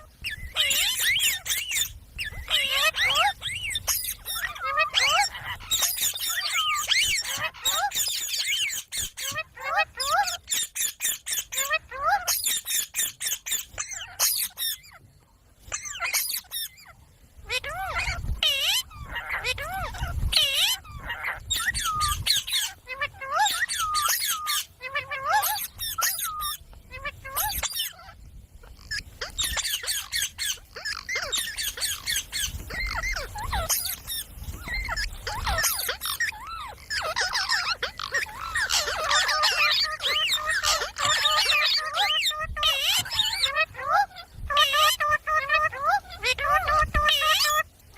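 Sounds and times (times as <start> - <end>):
parrot squawking and chirping: 0.0 - 47.9.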